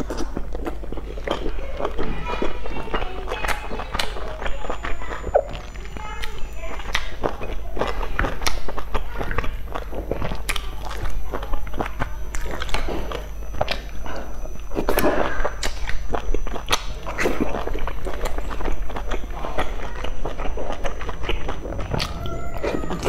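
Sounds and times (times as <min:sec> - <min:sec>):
wet chewing and mouth smacking: 0:00.0 - 0:23.0.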